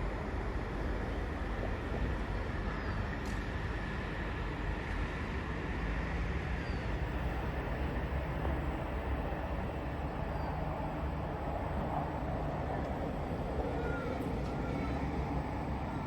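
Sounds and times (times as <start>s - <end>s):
electric train rumble and hum: 0.0s - 16.0s.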